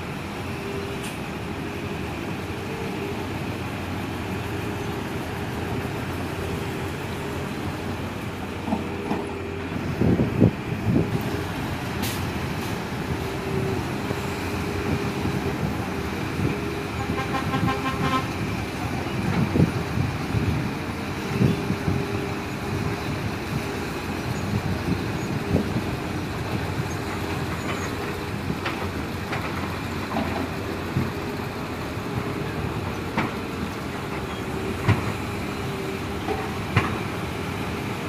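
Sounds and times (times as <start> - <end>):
diesel excavators running: 0.0 - 38.0.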